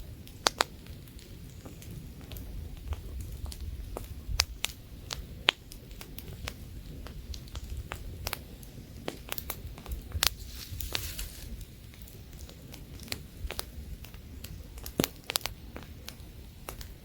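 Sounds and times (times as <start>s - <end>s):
campfire crackling and popping: 0.0s - 17.0s
light wind rumble: 0.0s - 17.0s.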